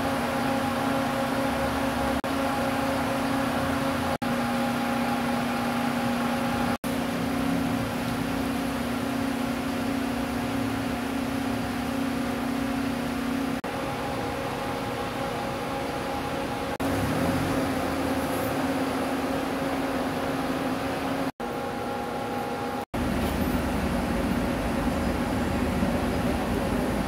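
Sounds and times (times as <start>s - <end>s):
buses idling: 0.0s - 27.0s.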